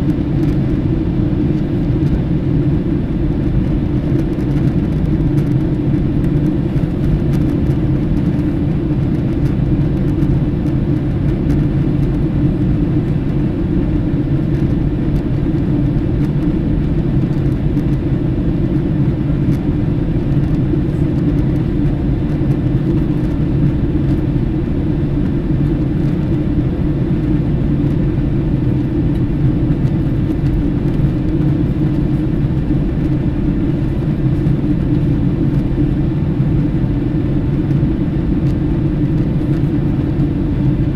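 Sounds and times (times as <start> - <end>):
aircraft rumble in flight: 0.0 - 40.9.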